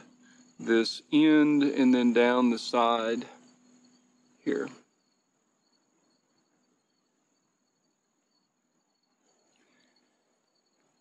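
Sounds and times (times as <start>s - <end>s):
faint crickets chirping: 0.0s - 11.0s
faint high steady tone: 0.0s - 11.0s.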